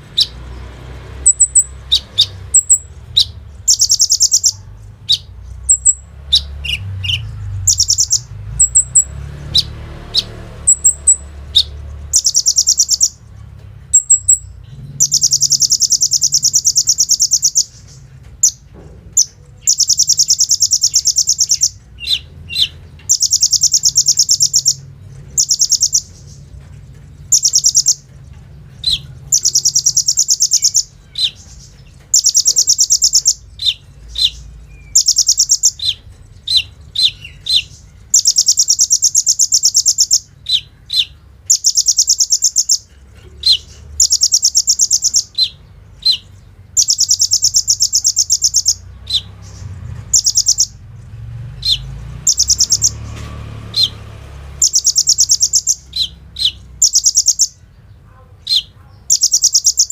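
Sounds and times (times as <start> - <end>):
bird singing rattling trills: 0.0 - 59.9.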